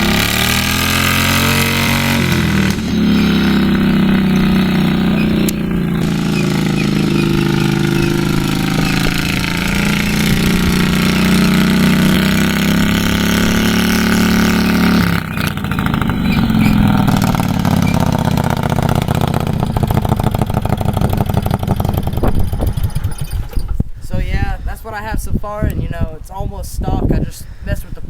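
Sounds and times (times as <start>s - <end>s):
riding mower engine running: 0.0s - 23.9s.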